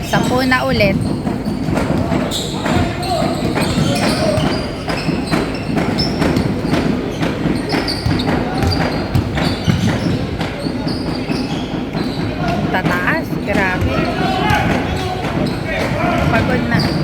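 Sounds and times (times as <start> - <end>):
murmur of voices: 0.0 - 17.0
sneakers squeaking: 0.0 - 17.0
basketball bouncing on wood floor: 0.1 - 17.0.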